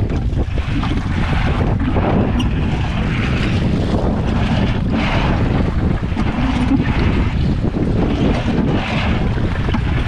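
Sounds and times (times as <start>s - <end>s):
waves washing around boat: 0.0s - 10.0s
wind buffeting microphone: 0.0s - 10.0s.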